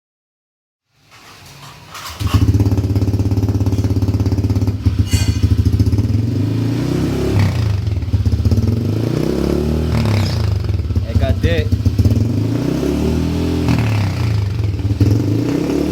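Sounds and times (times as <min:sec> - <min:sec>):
scooter engine starting and idling: 0:01.0 - 0:12.5, 0:13.2 - 0:15.9.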